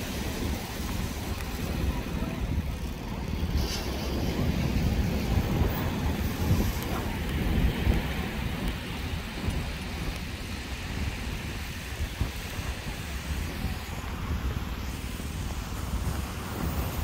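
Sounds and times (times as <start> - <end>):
rushing outdoor hiss: 0.0 - 17.0
wind buffeting microphone: 0.0 - 17.0.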